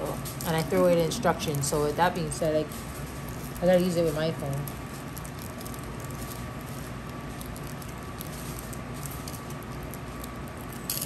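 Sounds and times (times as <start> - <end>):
steady background hum: 0.0 - 11.0
plastic bags crinkling: 0.3 - 11.0.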